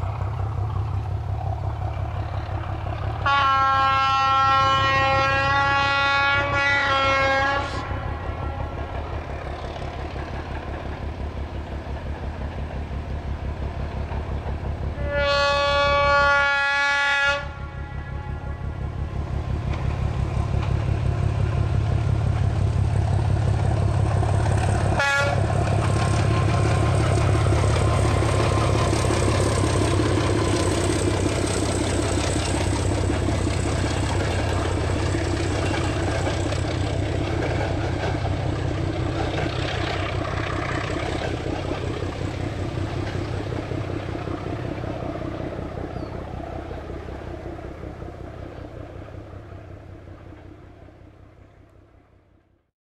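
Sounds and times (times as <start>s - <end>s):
diesel locomotive engine throbbing: 0.0s - 52.0s.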